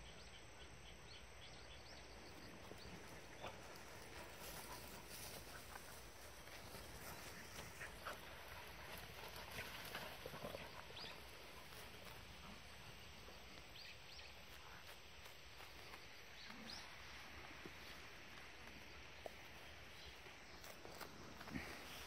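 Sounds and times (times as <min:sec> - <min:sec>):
small dogs scuffling on dirt: 0:02.3 - 0:22.0.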